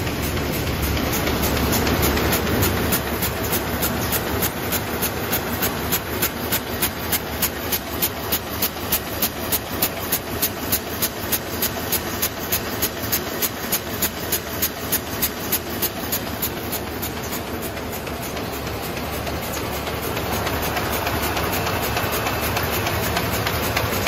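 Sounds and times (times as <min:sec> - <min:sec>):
machine clacking: 0:00.0 - 0:24.0
machine running noise: 0:00.0 - 0:24.0.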